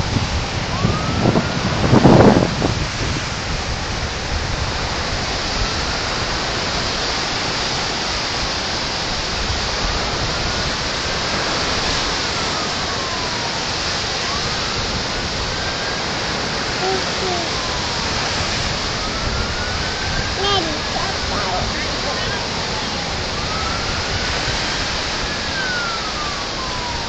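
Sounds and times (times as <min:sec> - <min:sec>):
ocean surf on beach: 0:00.0 - 0:27.0.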